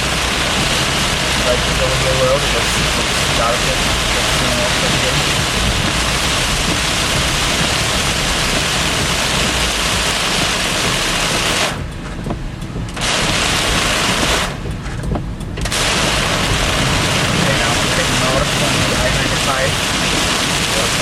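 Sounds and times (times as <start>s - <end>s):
heavy rain drumming on a car: 0.0s - 21.0s
road noise: 0.0s - 21.0s.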